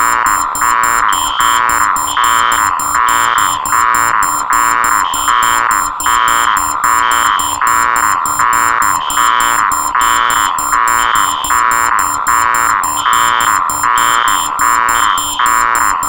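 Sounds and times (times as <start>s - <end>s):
pulsing electronic alarm tones: 0.0s - 16.0s
rapid high beeps: 0.0s - 16.0s.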